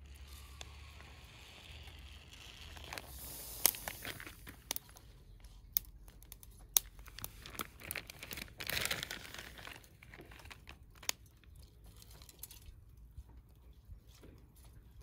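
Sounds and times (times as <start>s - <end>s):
crinkling and rustling handling: 0.0s - 15.0s.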